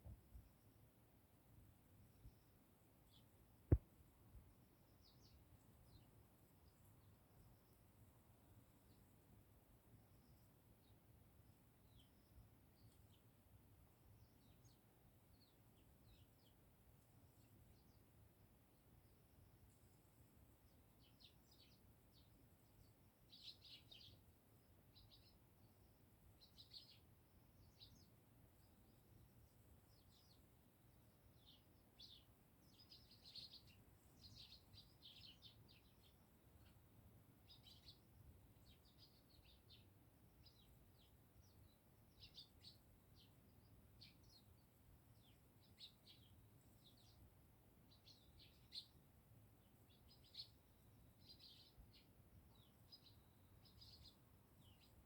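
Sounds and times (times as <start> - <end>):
sparrows chirping: 4.8 - 8.0, 11.8 - 18.2, 19.0 - 55.0.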